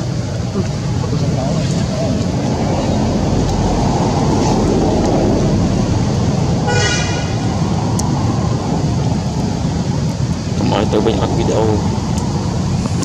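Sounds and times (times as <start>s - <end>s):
loud outdoor rumble: 0.0s - 13.0s.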